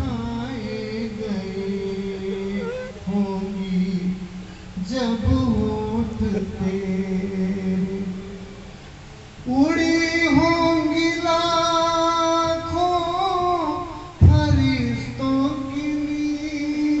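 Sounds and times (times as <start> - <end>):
man singing into microphone: 0.0 - 8.6, 9.4 - 17.0.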